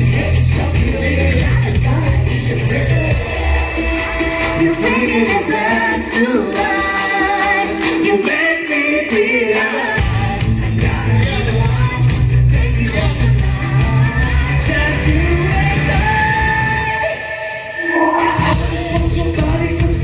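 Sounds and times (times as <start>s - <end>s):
heavy bass: 0.0s - 8.3s, 10.0s - 17.2s, 18.2s - 20.0s
live rock band music: 0.0s - 20.0s
person singing: 0.0s - 20.0s.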